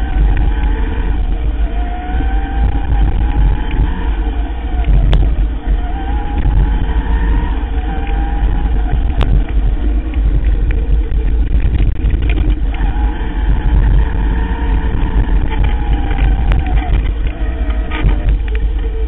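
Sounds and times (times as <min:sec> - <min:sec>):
electric motor whine: 0:00.0 - 0:19.0
trail rumble: 0:00.0 - 0:19.0
wind buffeting microphone: 0:00.0 - 0:19.0.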